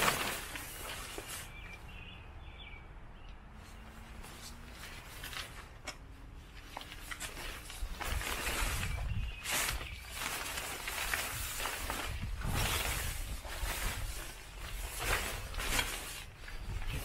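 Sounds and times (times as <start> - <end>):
nylon tent fabric rustling: 0.0 - 1.7, 3.6 - 17.0.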